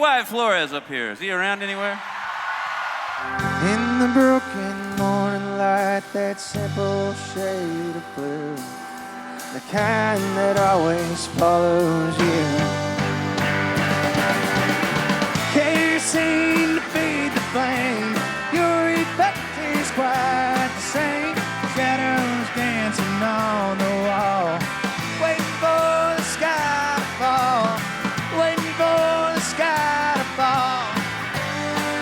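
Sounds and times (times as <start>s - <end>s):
country-rock band playing: 3.2s - 32.0s
sliding lead melody: 3.2s - 32.0s
steady drum beat: 3.4s - 32.0s.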